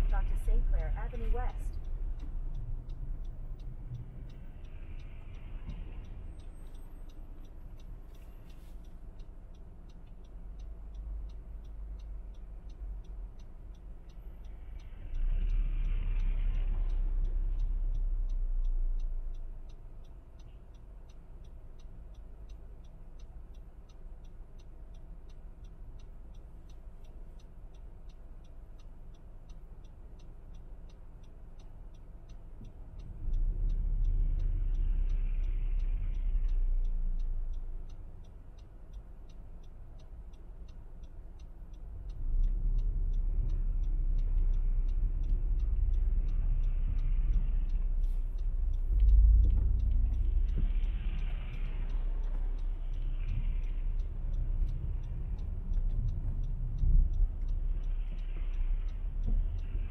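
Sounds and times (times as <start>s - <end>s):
car idling rumble: 0.0s - 59.9s
passing vehicle: 0.0s - 59.9s
turn signal ticking: 0.0s - 59.9s.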